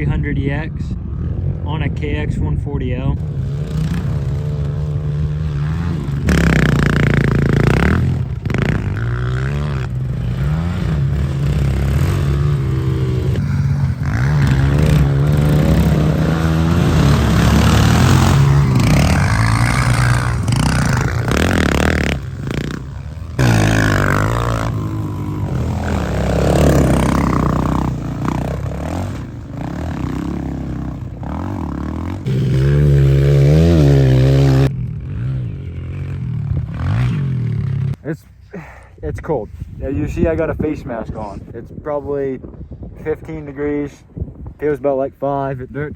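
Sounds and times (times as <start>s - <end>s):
atv engine revving: 0.0s - 38.7s
pit bike revving: 0.0s - 38.7s.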